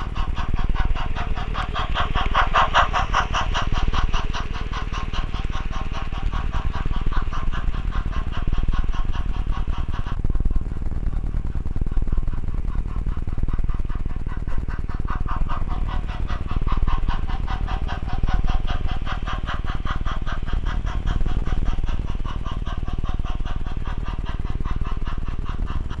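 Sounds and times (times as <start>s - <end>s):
low rumble: 0.0s - 26.0s
rapid buzzing flutter: 0.0s - 26.0s.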